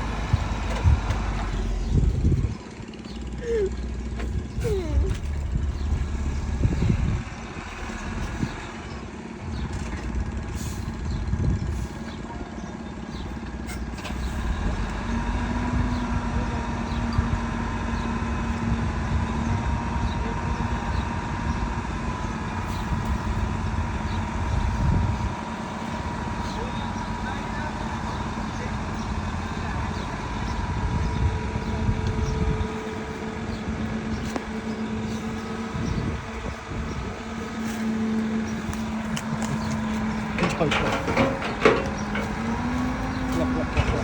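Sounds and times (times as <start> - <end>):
heavy machinery diesel engines: 0.0 - 44.0.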